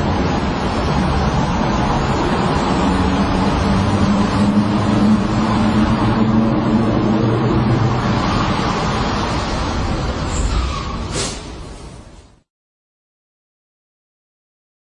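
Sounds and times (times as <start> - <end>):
road noise: 0.0 - 12.5.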